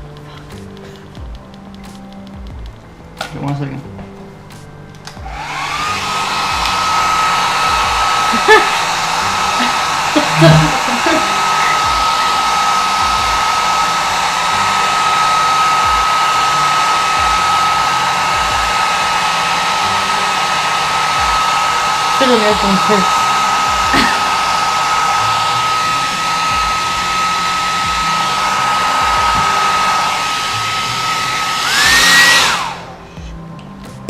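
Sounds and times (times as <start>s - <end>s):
hair dryer blowing: 5.1s - 33.1s.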